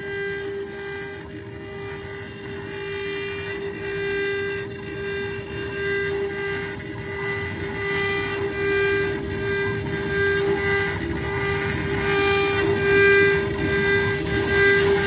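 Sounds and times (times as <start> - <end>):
router spindle running: 0.0 - 15.0
stepper motor tones: 0.0 - 15.0.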